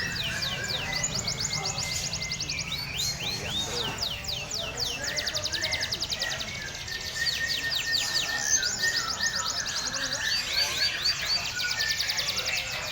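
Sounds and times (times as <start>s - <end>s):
canary singing trills: 0.0s - 12.9s.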